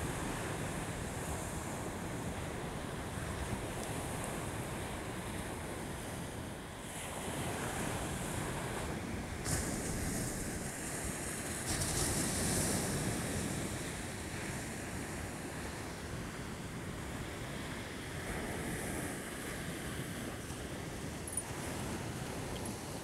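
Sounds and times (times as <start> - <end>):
small waves washing onto sand: 0.0 - 23.0
wind rumbling on microphone: 0.0 - 23.0.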